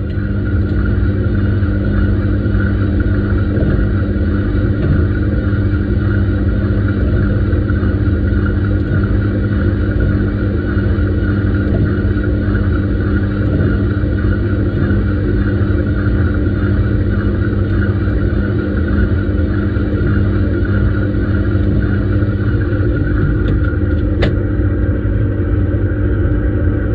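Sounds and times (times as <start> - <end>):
washing machine drum rumble: 0.0 - 26.9
washing machine motor hum: 0.0 - 26.9.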